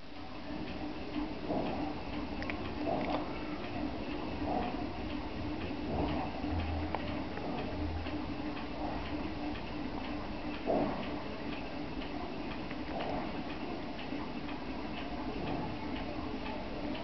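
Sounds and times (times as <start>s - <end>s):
steady regular ticking: 0.1s - 17.0s.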